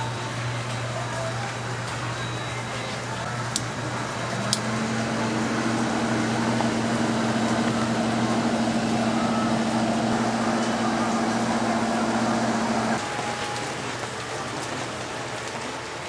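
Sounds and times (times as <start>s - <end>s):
electric blower fan humming: 0.0s - 15.7s
background shop noise: 0.0s - 16.0s.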